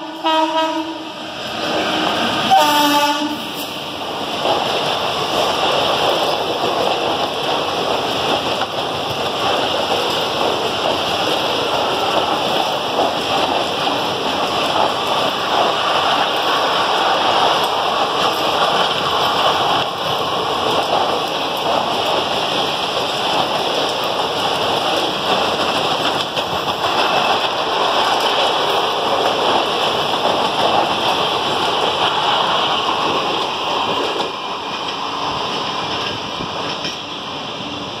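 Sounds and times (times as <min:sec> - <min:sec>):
train wheels rushing on rail: 0:00.0 - 0:38.0.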